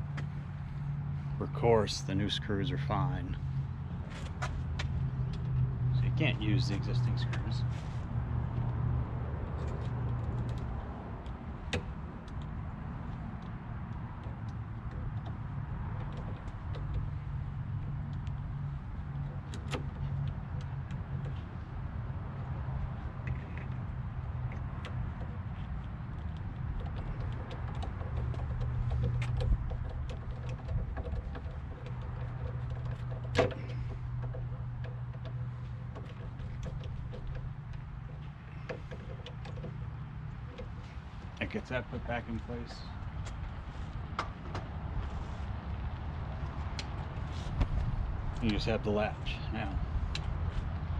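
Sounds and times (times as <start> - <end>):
low engine-like hum: 0.0 - 50.9.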